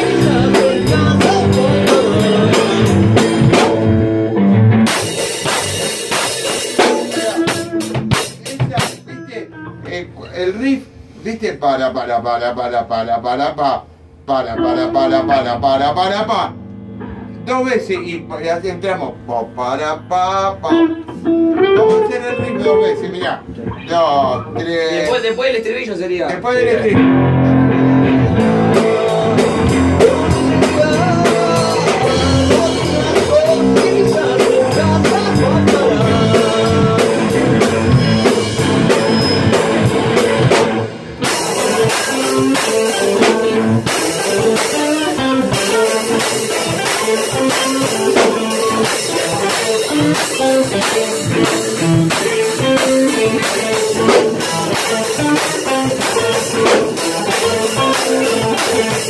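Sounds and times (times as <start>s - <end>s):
drum kit: 0.0s - 10.0s, 20.7s - 25.7s, 26.8s - 59.0s
electric guitars: 0.0s - 11.1s, 13.8s - 25.4s, 26.4s - 59.0s.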